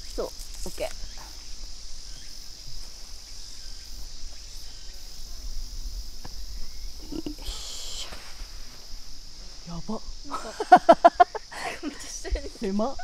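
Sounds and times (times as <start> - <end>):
insects droning in chorus: 0.0 - 13.0.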